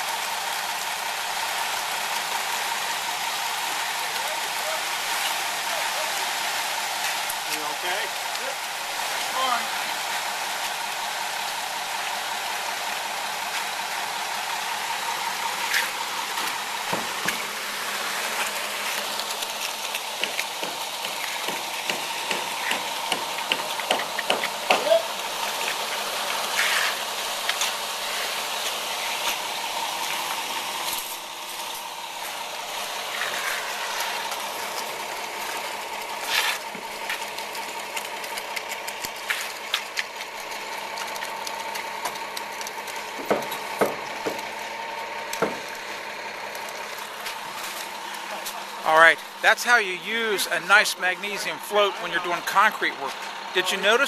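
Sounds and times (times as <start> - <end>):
float scraping wet concrete: 2.0 - 54.0.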